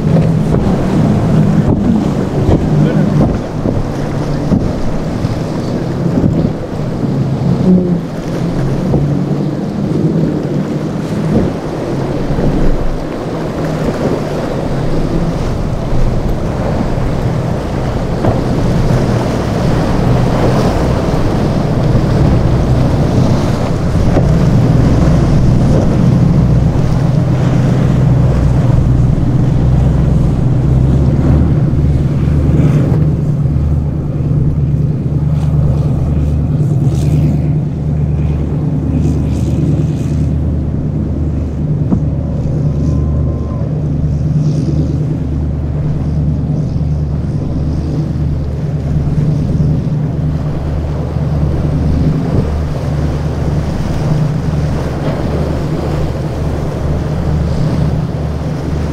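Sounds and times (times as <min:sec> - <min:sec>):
boat engines droning: 0:00.0 - 0:58.9
waves: 0:00.0 - 0:58.9
wind buffeting microphone: 0:00.0 - 0:58.9.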